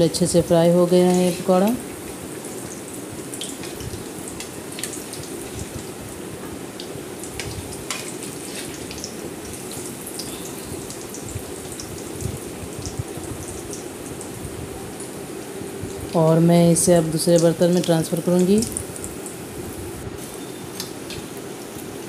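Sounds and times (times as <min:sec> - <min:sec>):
deep-frying sizzle: 0:00.0 - 0:22.0.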